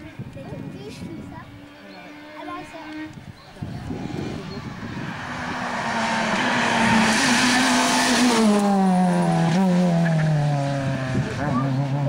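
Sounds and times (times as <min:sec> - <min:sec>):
rally car engine passing: 0:01.4 - 0:12.0.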